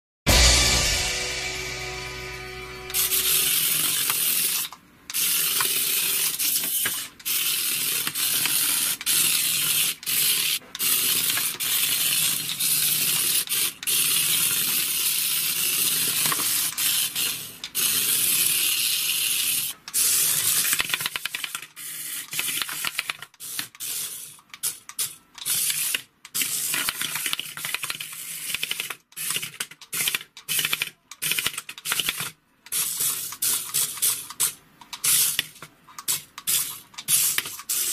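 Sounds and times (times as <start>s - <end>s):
toy car motor whirring: 3.0s - 37.9s.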